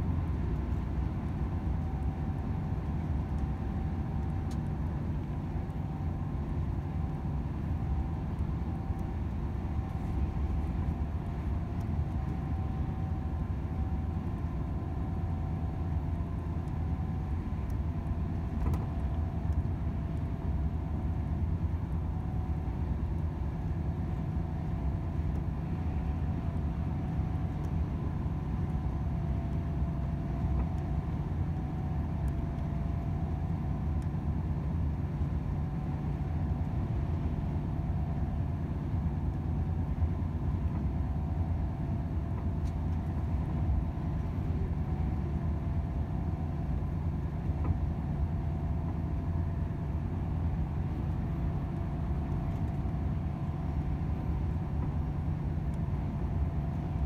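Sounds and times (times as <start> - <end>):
faint steady hum: 0.0 - 57.0
road rumble: 0.0 - 57.0.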